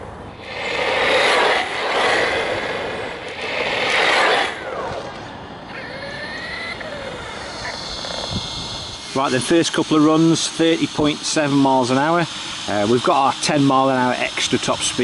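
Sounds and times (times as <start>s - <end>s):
electric motor whine: 0.0s - 15.0s
rc truck tyre noise: 0.0s - 15.0s.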